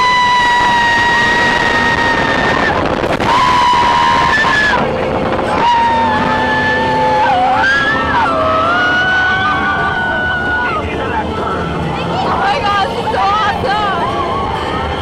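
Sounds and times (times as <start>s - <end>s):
ride car running noise: 0.0s - 15.0s
riders screaming: 0.0s - 15.0s
rushing wind: 0.0s - 15.0s.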